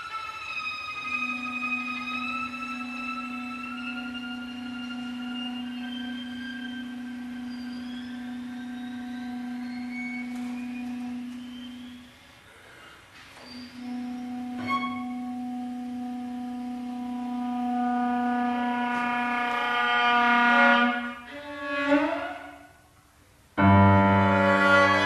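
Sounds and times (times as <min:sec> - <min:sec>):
chamber music ensemble: 0:00.0 - 0:22.7, 0:23.6 - 0:25.0.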